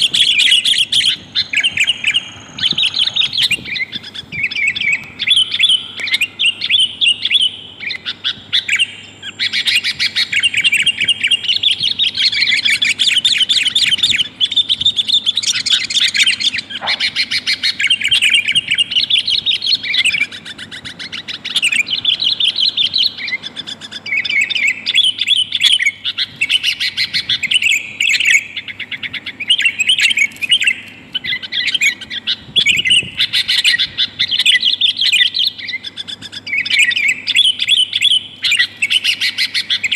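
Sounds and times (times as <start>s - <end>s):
bird chattering calls: 0.0s - 39.9s.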